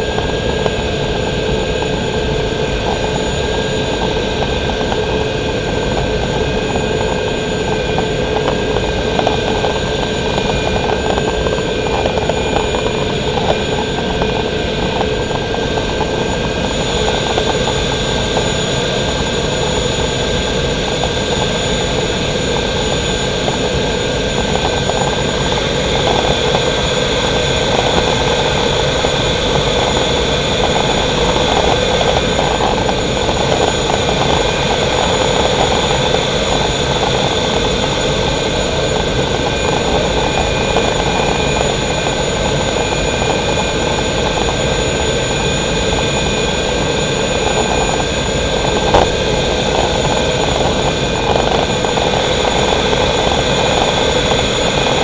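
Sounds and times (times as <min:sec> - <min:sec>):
gas turbine whine: 0:00.0 - 0:55.0.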